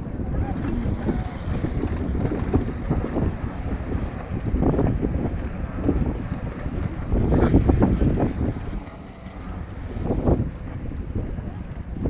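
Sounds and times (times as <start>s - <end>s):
jet ski engines: 0.0s - 12.0s
wind buffeting microphone: 0.0s - 12.0s.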